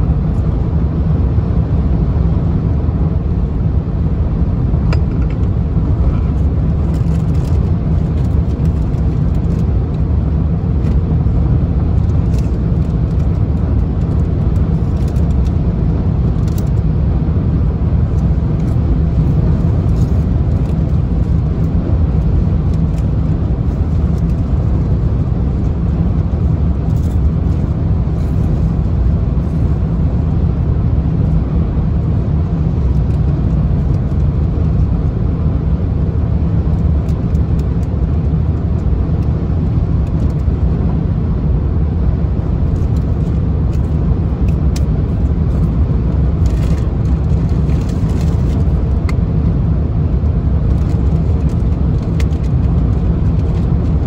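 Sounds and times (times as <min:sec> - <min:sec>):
car driving at highway speed: 0:00.0 - 0:54.0.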